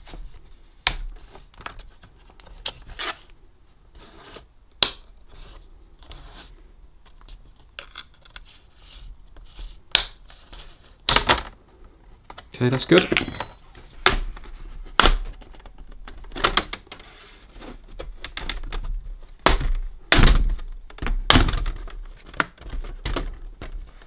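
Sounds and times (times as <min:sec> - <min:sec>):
plastic scraping and rubbing: 0:00.0 - 0:03.3, 0:03.9 - 0:12.5, 0:13.8 - 0:24.0.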